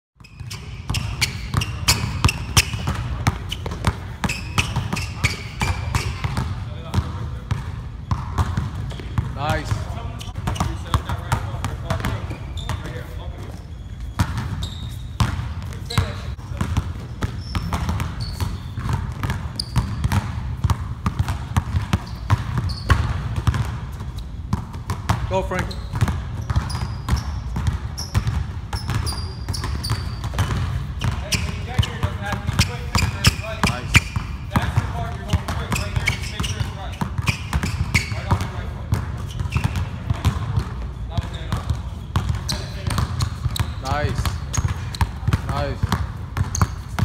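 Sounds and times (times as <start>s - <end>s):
basketballs bouncing on hardwood floor: 0.2s - 47.0s.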